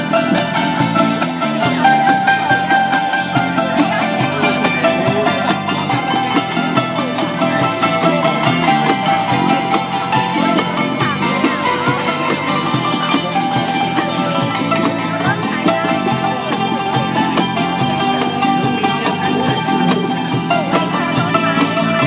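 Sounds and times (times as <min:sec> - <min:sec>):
hammered dulcimers: 0:00.0 - 0:22.0
hand drums: 0:00.0 - 0:22.0
lute: 0:00.0 - 0:22.0.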